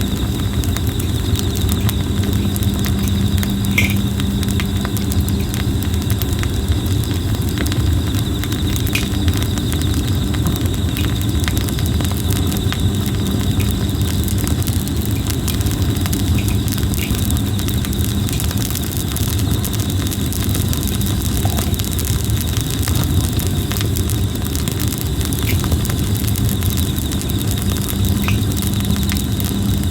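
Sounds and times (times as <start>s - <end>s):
campfire crackling and popping: 0.0s - 29.9s
insect trilling: 0.0s - 29.9s
low rumble of flames: 0.0s - 29.9s.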